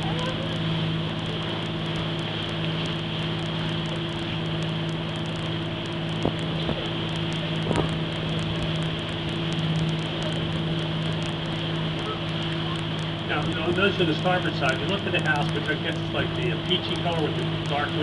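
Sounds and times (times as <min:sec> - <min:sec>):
boat engine drone: 0:00.0 - 0:18.0
water noise: 0:00.0 - 0:18.0
wind: 0:00.0 - 0:18.0.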